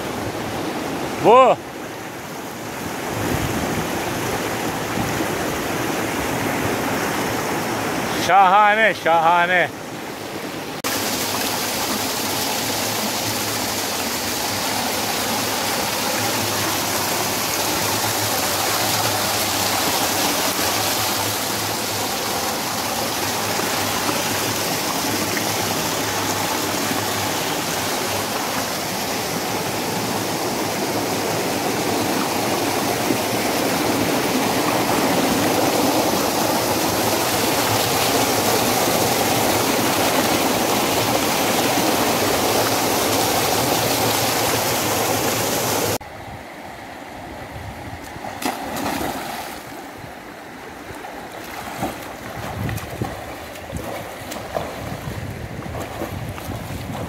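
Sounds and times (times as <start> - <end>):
stream water rushing over boulders: 0.0 - 57.0.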